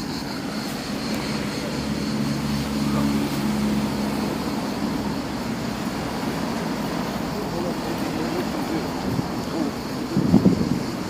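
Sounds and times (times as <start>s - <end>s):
passing vehicle engine hum: 0.0s - 11.0s.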